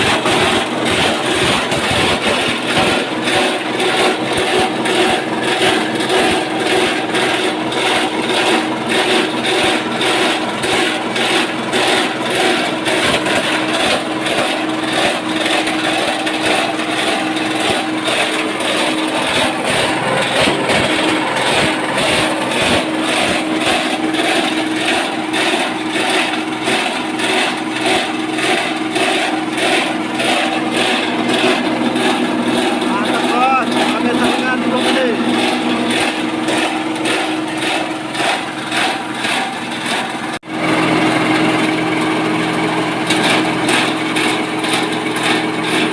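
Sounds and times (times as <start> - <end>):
shredder running under load: 0.0 - 45.9.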